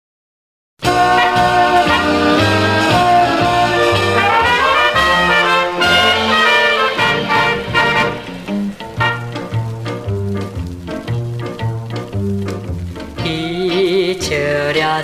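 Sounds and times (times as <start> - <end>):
band playing pop melody: 0.8 - 15.0.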